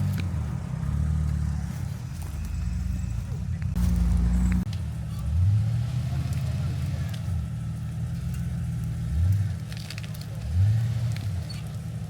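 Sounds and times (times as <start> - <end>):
off-road car engine revving: 0.0 - 12.0.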